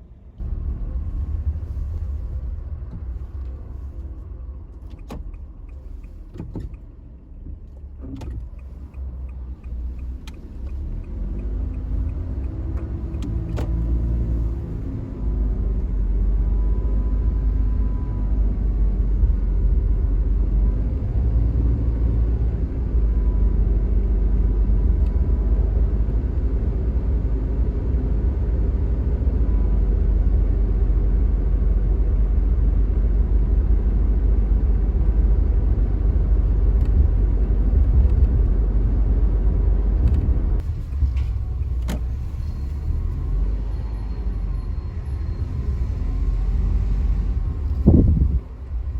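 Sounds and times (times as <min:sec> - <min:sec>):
transmission rumble with whine: 0:00.0 - 0:48.9.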